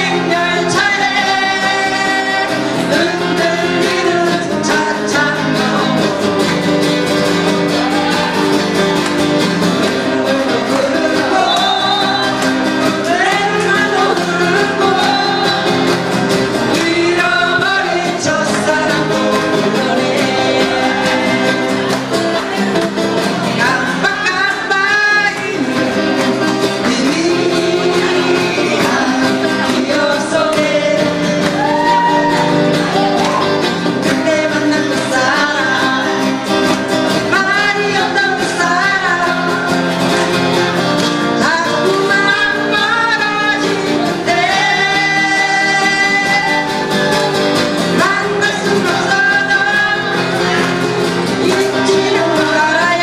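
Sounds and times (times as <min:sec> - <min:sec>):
acoustic guitars strummed: 0:00.0 - 0:53.0
people singing: 0:00.0 - 0:53.0.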